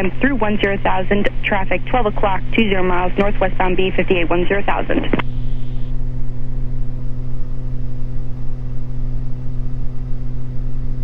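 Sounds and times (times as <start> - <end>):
propeller aircraft engines droning: 0.0 - 10.7.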